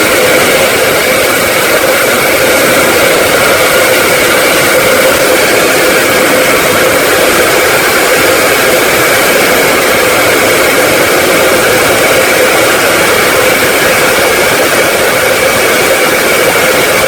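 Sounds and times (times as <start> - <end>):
hand dryer blowing air: 0.0 - 17.0.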